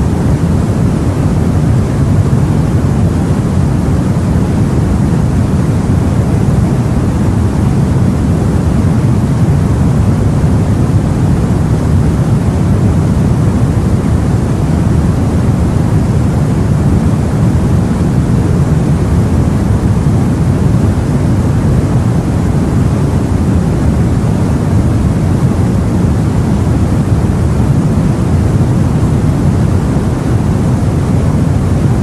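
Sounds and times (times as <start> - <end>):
low rumble of sea and wind: 0.0 - 32.0.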